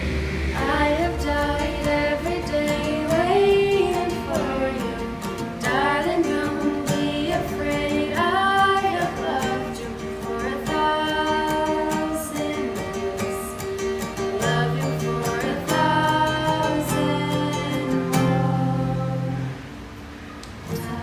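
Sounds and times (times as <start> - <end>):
plucked strings: 0.0 - 20.0
woman singing: 0.6 - 19.6, 20.7 - 21.0.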